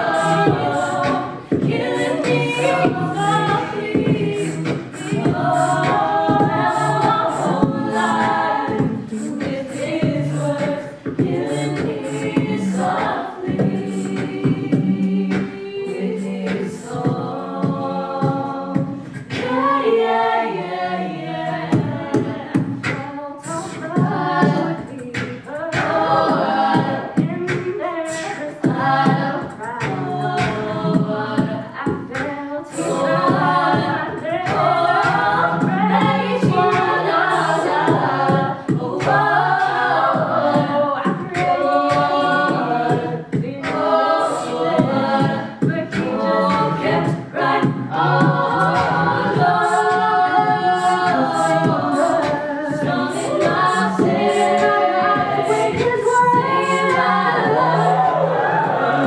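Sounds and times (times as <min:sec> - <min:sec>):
a cappella harmony singing: 0:00.0 - 0:59.0
beatboxing: 0:00.0 - 0:59.0.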